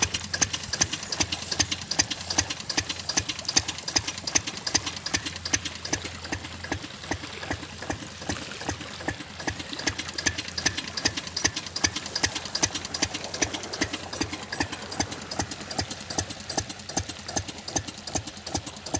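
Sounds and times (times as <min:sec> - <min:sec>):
diesel engine knocking: 0:00.0 - 0:18.9.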